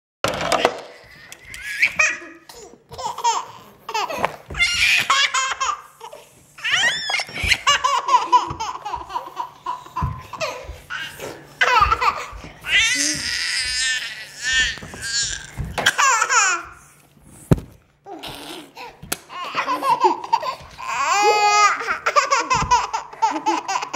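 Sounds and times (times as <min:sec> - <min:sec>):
toddler laughing: 0:01.3 - 0:16.9, 0:18.1 - 0:23.9.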